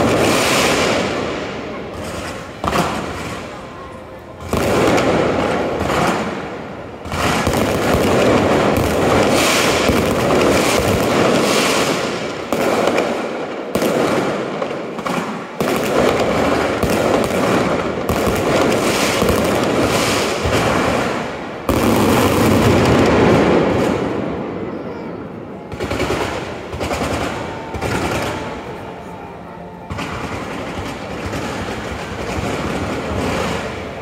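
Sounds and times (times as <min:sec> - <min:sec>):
fireworks crackling: 0:00.0 - 0:34.0.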